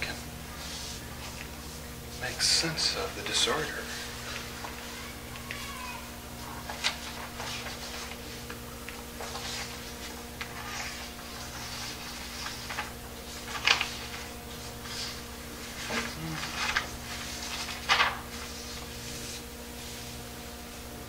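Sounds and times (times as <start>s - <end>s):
paper rustling: 0.0s - 20.6s.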